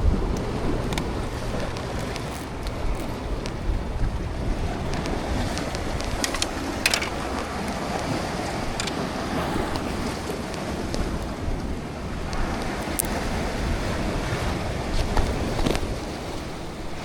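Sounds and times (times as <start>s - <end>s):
sea waves washing against rocks: 0.0s - 17.0s
wind buffeting microphone: 0.0s - 17.0s.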